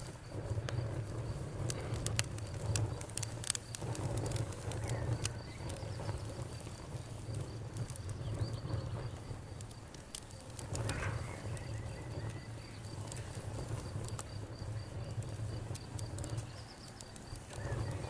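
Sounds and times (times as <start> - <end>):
campfire crackling and popping: 0.0 - 18.0
insect trilling: 0.3 - 18.0.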